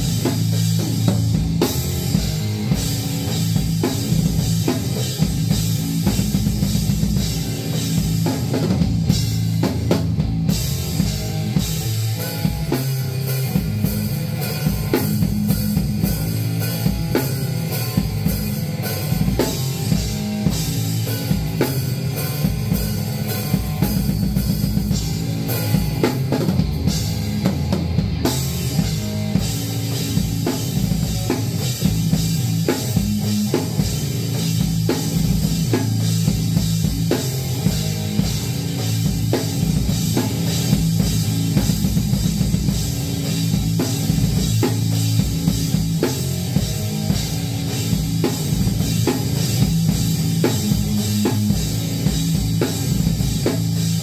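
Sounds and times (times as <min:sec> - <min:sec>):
bass guitar: 0:00.0 - 0:54.0
drum kit playing rock beat: 0:00.0 - 0:54.0
electric guitar: 0:00.0 - 0:54.0.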